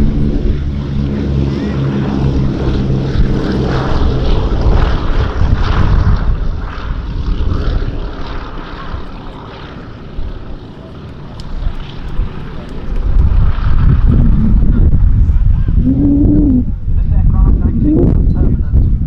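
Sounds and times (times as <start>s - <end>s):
propeller plane droning past: 0.0s - 18.8s.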